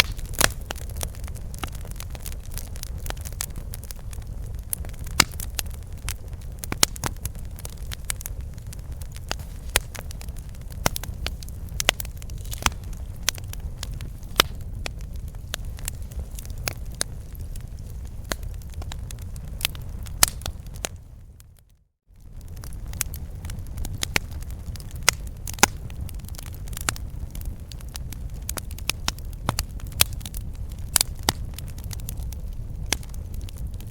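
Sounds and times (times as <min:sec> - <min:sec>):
campfire wood crackling and popping: 0:00.0 - 0:33.9.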